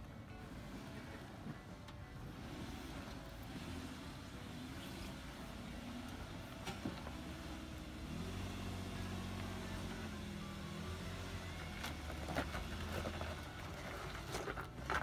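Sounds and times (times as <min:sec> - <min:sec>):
suv engine at low revs: 0:00.0 - 0:15.0.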